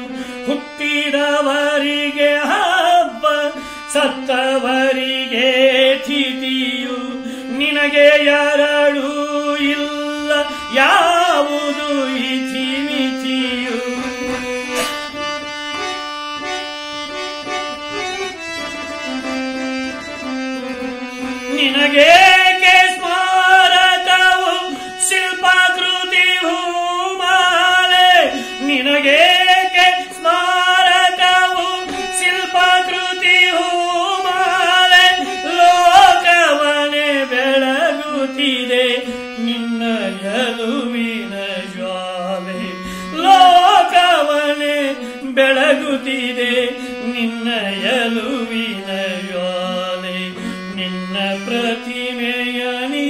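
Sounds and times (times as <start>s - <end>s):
man singing: 0.0s - 16.0s, 17.1s - 53.0s
harmonium melody: 0.0s - 53.0s.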